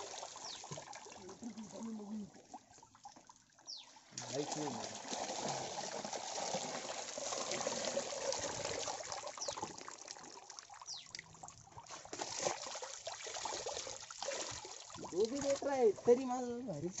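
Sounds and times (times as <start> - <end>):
water drips and splashes: 0.0 - 17.0
water trickling and splattering: 0.0 - 17.0.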